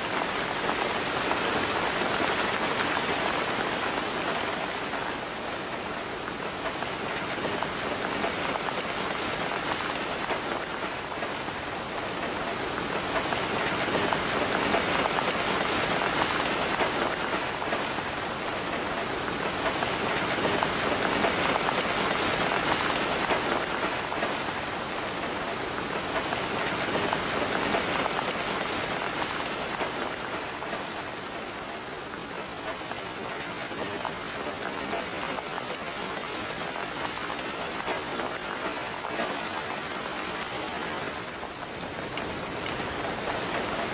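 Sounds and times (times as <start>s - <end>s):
steady rain patter: 0.0s - 43.9s.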